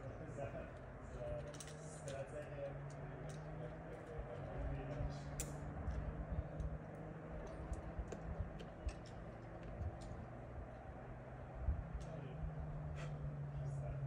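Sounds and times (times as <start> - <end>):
low background murmur: 0.0 - 14.0.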